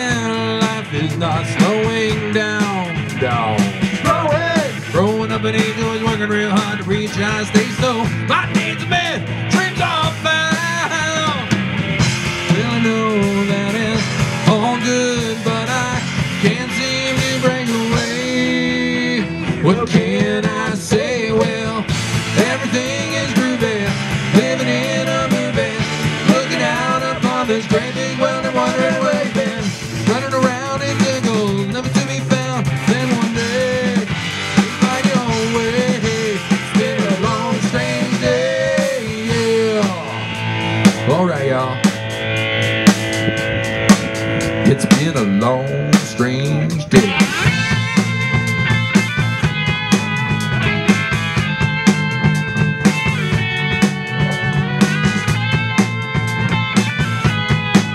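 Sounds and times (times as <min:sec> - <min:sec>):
bass guitar: 0:00.0 - 0:57.9
drum kit: 0:00.0 - 0:57.9
electric guitars: 0:00.0 - 0:57.9.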